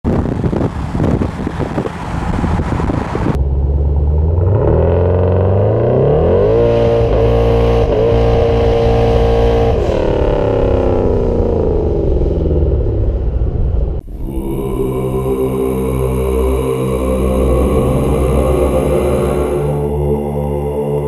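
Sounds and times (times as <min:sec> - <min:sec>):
rushing wind and road noise: 0:00.0 - 0:21.0
car engine accelerating hard: 0:00.2 - 0:21.0.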